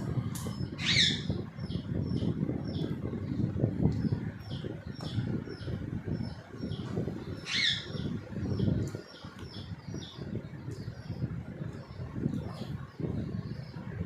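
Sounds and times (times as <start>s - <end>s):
parakeets chirping: 0.4s - 13.9s.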